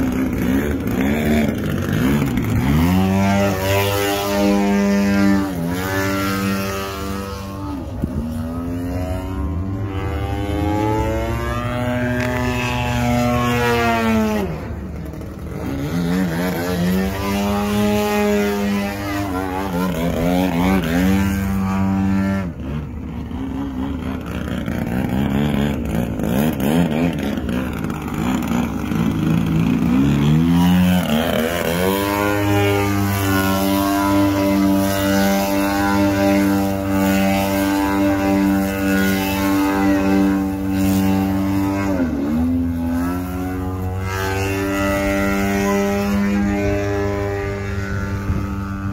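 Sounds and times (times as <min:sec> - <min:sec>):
model airplane engine: 0:00.0 - 0:48.9.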